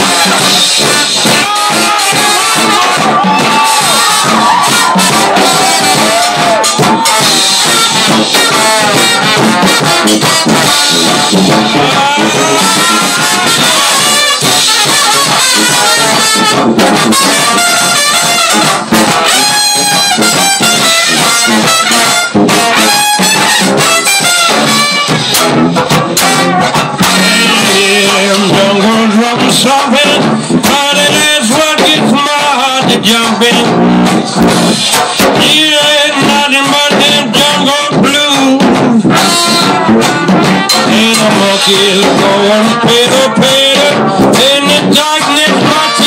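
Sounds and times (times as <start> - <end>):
drums: 0.0 - 46.0
trombone: 0.0 - 46.0
trumpet: 0.0 - 46.0
banjo: 4.0 - 46.0.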